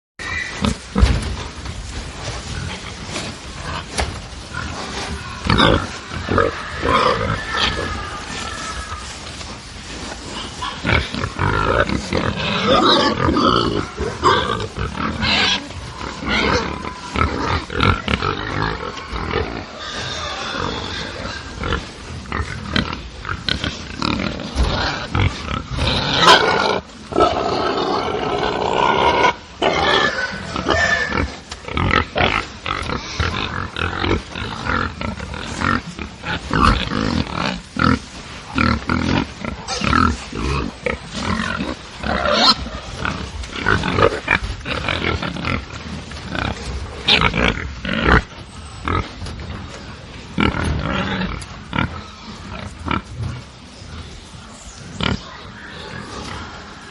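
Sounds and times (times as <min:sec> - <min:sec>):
pigs grunting and squealing: 0:00.2 - 0:01.5, 0:02.4 - 0:56.9.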